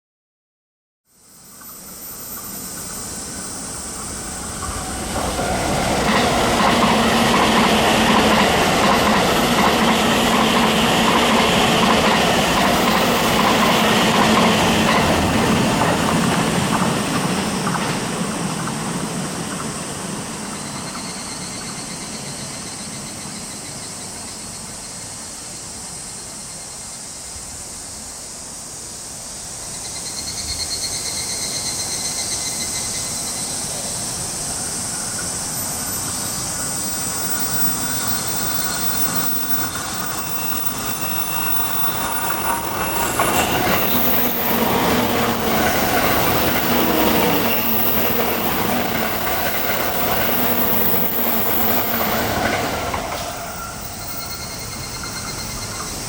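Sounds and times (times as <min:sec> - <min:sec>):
electric train wheels on rail: 0:01.2 - 0:56.0.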